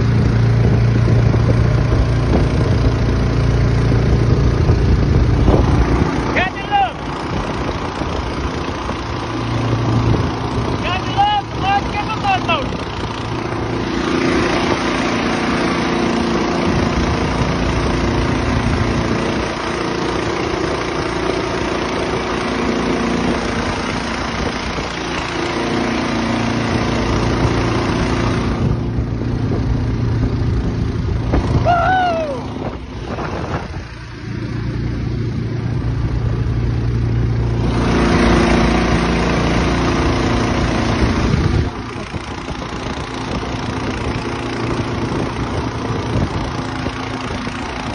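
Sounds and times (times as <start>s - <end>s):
boat motor droning: 0.0s - 47.9s
wind and water spray rushing: 0.0s - 47.9s.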